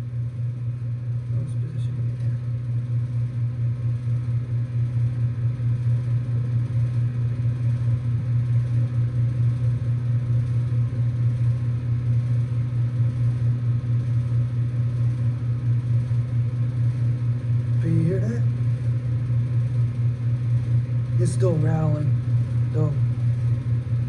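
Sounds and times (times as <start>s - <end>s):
heat pump compressor hum: 0.0s - 24.0s.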